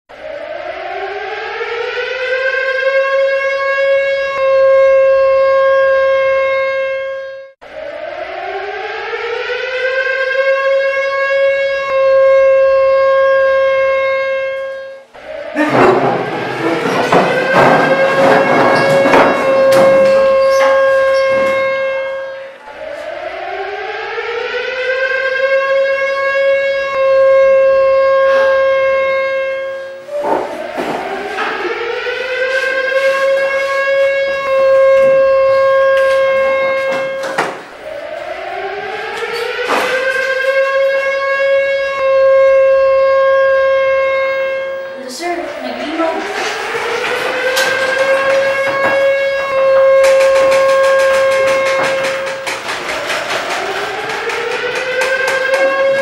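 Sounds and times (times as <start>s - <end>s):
warning siren wailing: 0.1s - 56.0s.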